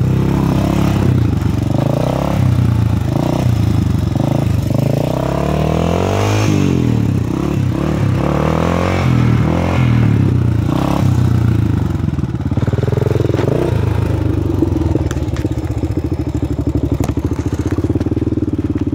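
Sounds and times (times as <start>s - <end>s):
four-stroke engine revving: 0.0s - 18.9s.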